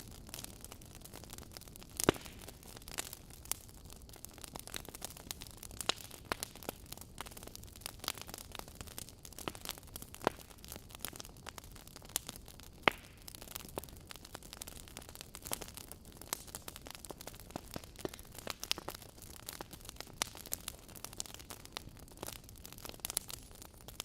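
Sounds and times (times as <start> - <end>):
low steady hiss: 0.0 - 24.0
wood fire crackling: 0.0 - 24.0.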